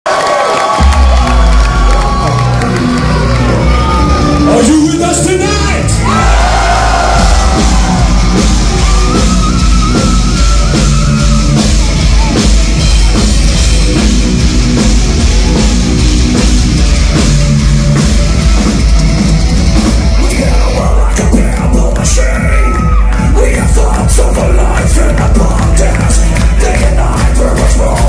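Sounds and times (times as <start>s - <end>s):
drum kit: 0.6s - 28.0s.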